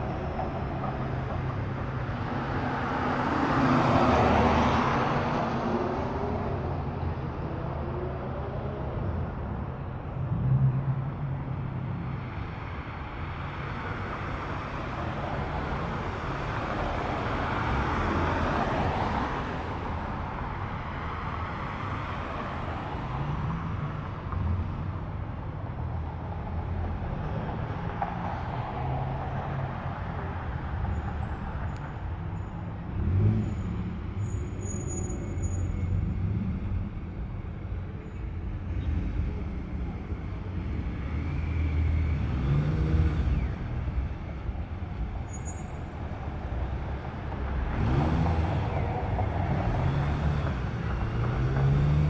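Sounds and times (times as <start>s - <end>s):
cars driving slowly past: 9.4s - 52.0s.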